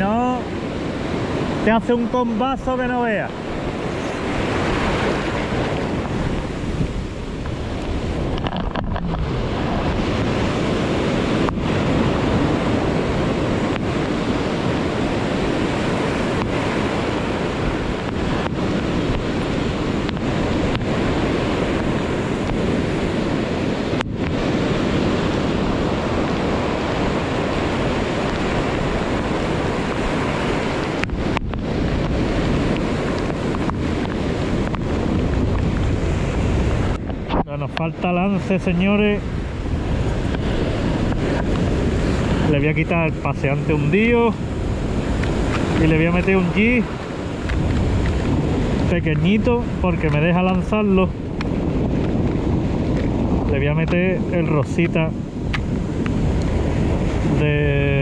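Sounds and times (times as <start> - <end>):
heavy surf on rocks: 0.0 - 58.0
wind buffeting microphone: 0.0 - 58.0.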